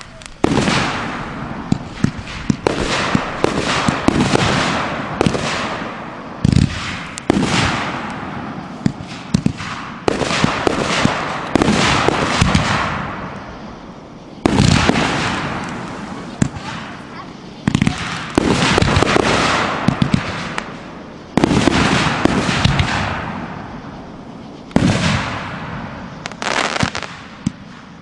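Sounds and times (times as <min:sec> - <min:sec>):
crackle and hiss of falling stars: 0:00.0 - 0:28.0
fireworks bangs: 0:00.0 - 0:28.0.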